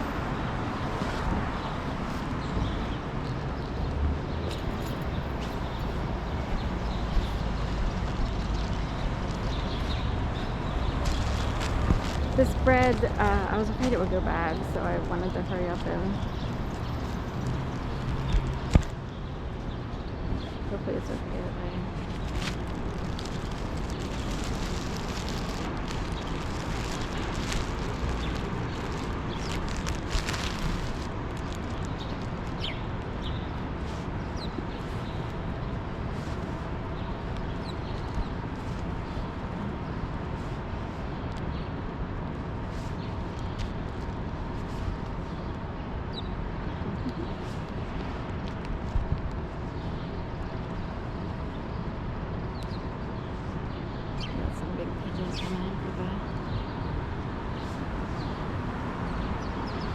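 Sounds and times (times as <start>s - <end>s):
low outdoor background noise: 0.0s - 59.9s
low traffic rumble: 0.0s - 59.9s
wind noise on microphone: 0.0s - 59.9s.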